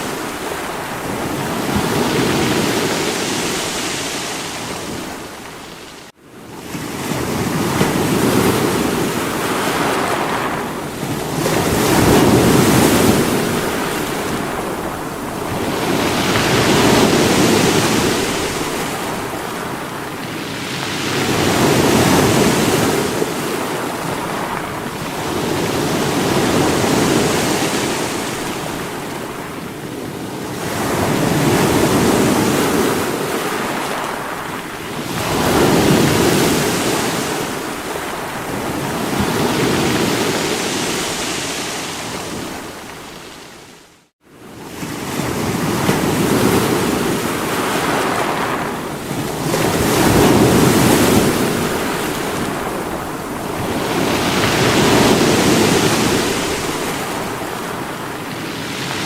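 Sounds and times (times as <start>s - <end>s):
sea waves breaking on rocks: 0.0s - 43.7s, 44.8s - 59.0s.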